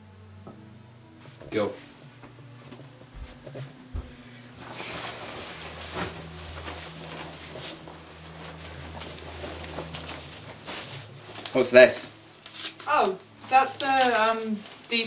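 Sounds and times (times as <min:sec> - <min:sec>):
low steady hum: 0:00.0 - 0:15.0
fabric jacket rustling: 0:01.8 - 0:15.0.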